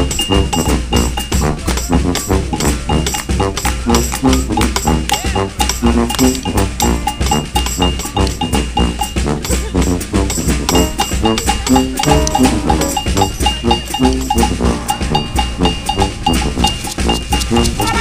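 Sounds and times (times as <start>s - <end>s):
brass instruments: 0.0s - 18.0s
drum kit beat: 0.0s - 18.0s
keyboard: 0.0s - 18.0s
tuba bass line: 0.0s - 18.0s.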